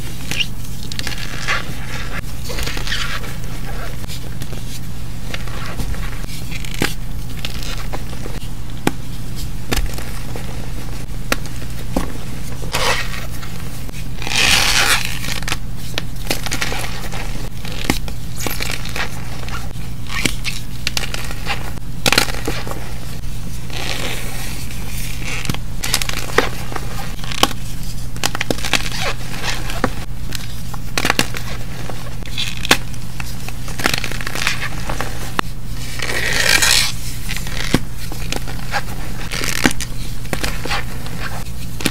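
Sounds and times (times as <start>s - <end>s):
powder crunching and squeaking: 0.0s - 41.9s
steady low hum: 0.0s - 41.9s.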